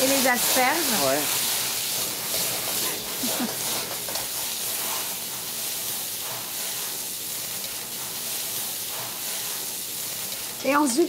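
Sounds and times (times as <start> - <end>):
ladle stirring in a wok: 0.0 - 10.7
vegetables sizzling in a wok: 0.0 - 11.0.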